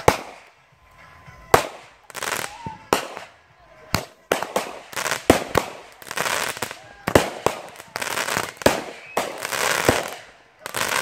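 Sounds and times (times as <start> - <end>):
fireworks crackling and hissing: 0.0 - 11.0
fireworks shells bursting: 0.0 - 11.0.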